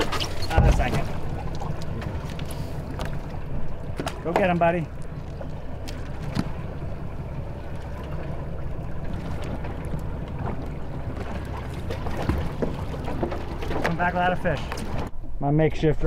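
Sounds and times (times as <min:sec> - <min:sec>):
outboard engines idling: 0:00.0 - 0:15.2.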